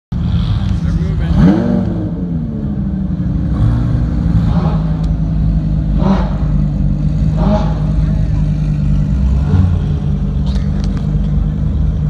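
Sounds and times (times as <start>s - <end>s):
car engine running at low revs: 0.1s - 12.0s.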